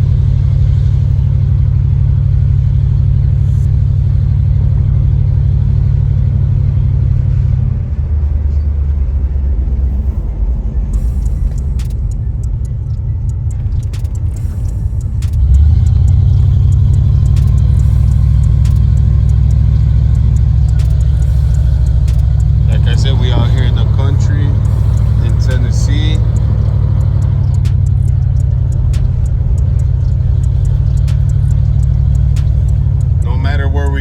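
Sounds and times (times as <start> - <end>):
car engine and exhaust rumble: 0.0 - 34.0.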